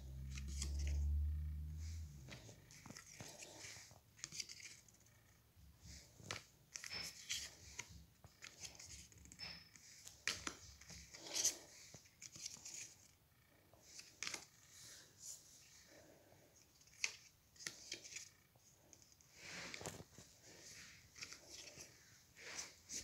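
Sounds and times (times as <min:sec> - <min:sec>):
cards rustling and clicking: 0:00.1 - 0:01.2, 0:02.2 - 0:05.1, 0:05.9 - 0:13.2, 0:13.8 - 0:15.0, 0:15.9 - 0:23.0.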